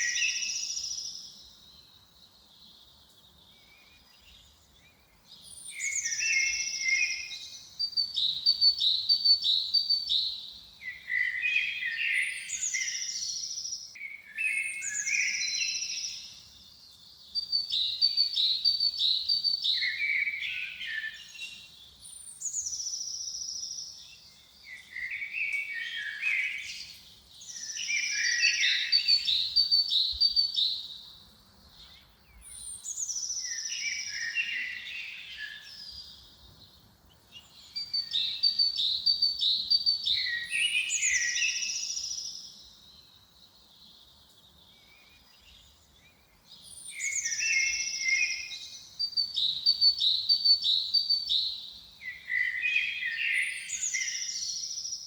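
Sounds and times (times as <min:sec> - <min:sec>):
songbird singing trills and whistles: 0:00.0 - 0:55.0.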